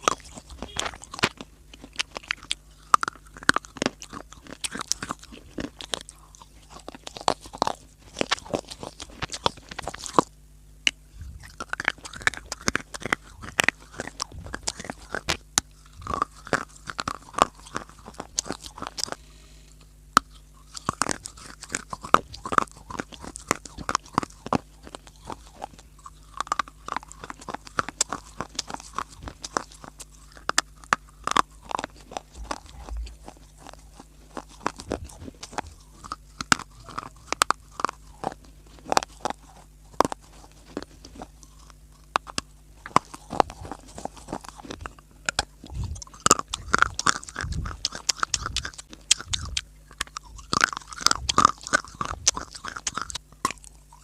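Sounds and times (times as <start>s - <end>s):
person chewing crunchy clay: 0.0s - 54.0s.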